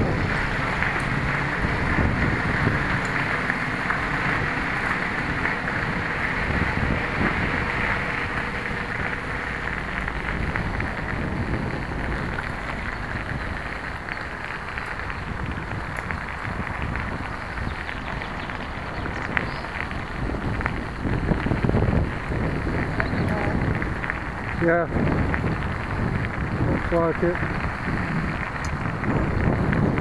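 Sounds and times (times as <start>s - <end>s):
bicycle tyres rolling: 0.0s - 30.0s
wind buffeting microphone: 0.0s - 30.0s.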